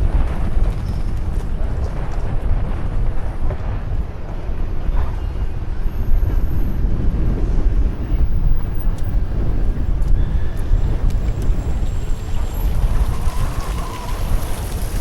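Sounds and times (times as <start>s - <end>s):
bicycle road noise: 0.0s - 15.0s
wind buffeting microphone: 0.0s - 15.0s.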